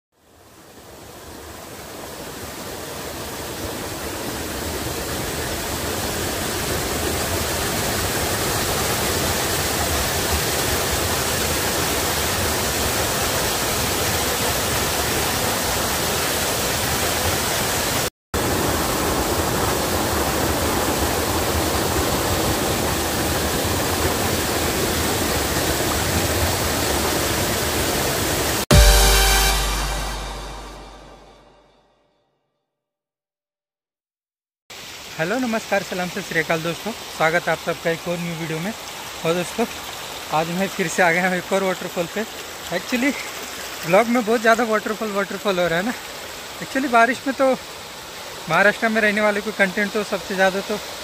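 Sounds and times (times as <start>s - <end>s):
waterfall rushing: 0.4s - 31.3s, 34.7s - 51.0s.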